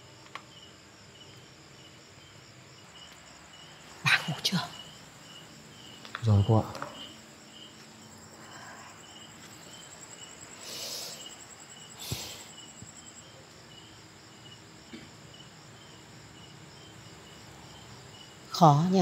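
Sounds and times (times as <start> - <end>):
crickets trilling: 0.0 - 19.0
slow repeating cricket chirp: 0.0 - 19.0.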